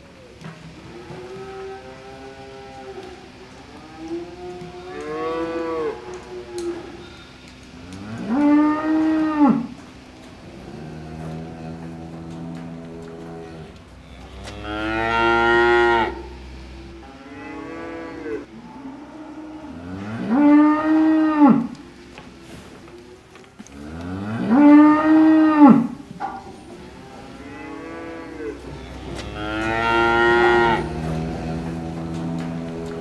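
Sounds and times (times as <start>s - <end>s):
cows mooing: 0.8s - 9.8s, 10.4s - 22.0s, 23.6s - 26.1s, 26.8s - 33.0s.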